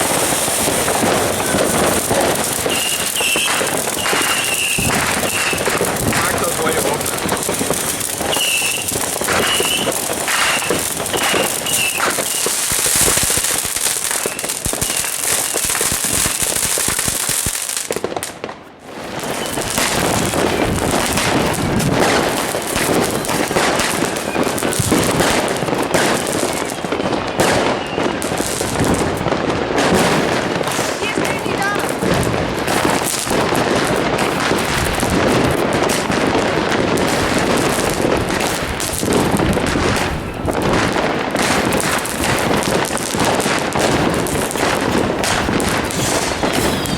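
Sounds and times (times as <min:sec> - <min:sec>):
fireworks bangs and crackle: 0:00.0 - 0:46.9.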